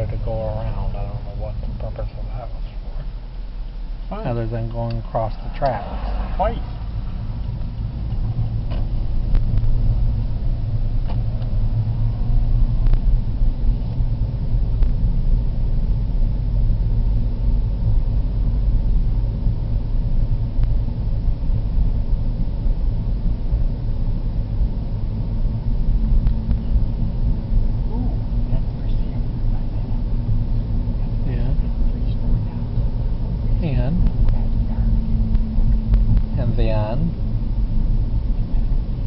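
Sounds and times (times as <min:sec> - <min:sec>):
car cabin rumble: 0:00.0 - 0:39.0.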